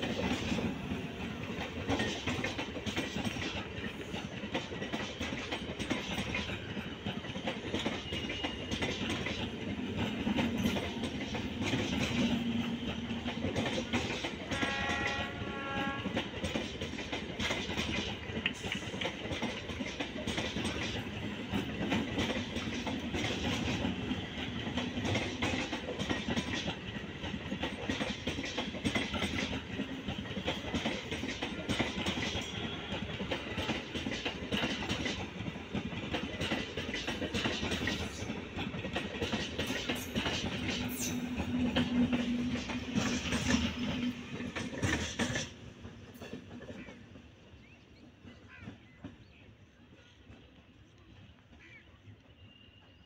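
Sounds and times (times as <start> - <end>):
train wheels clattering: 0.0 - 51.0.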